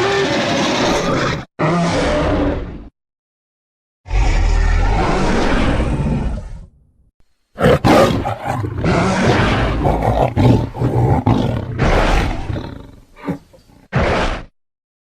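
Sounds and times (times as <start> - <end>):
creature roar: 0.0 - 2.8, 4.1 - 6.7, 7.6 - 14.5.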